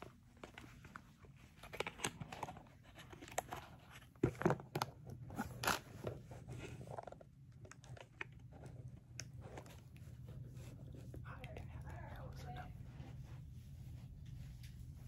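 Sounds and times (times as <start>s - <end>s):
rustling and handling noise: 0.0s - 15.0s.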